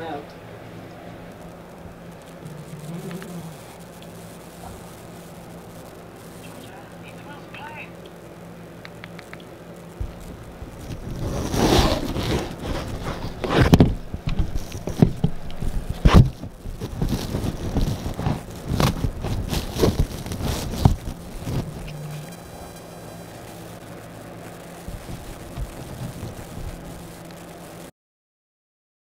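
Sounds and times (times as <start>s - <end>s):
fabric rubbing against microphone: 1.3s - 6.7s, 9.9s - 27.8s.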